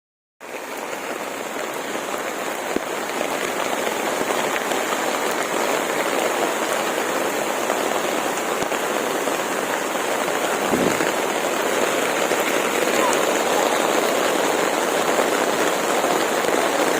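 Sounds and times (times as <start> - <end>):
rushing storm water: 0.4 - 16.9.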